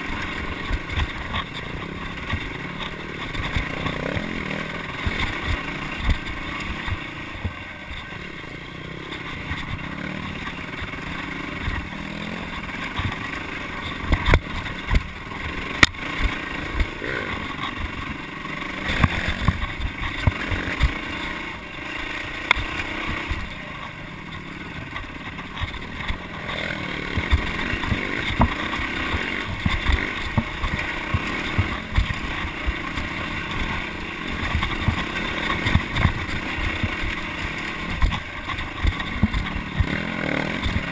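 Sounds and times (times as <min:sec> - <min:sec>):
dirt bike engine running: 0:00.0 - 0:40.9
knocks and clatter of bike: 0:00.0 - 0:40.9.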